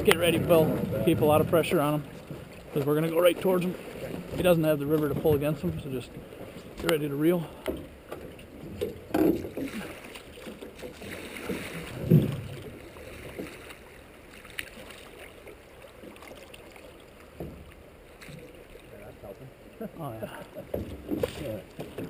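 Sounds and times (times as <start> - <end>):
oar splash: 0.0 - 22.0
oars pulling through water: 0.0 - 22.0.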